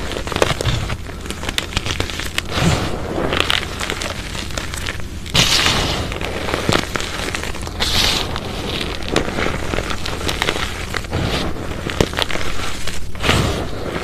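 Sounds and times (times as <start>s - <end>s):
dry powder crunching in hands: 0.0s - 14.0s.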